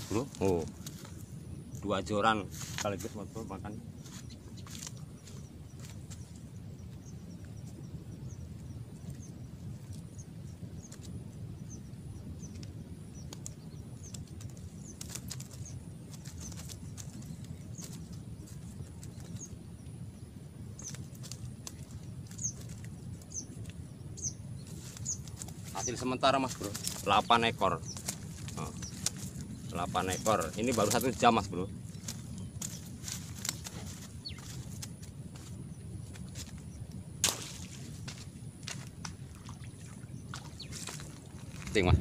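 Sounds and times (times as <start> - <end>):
small birds chirping: 0.0 - 42.0
steady low rumble: 0.0 - 42.0.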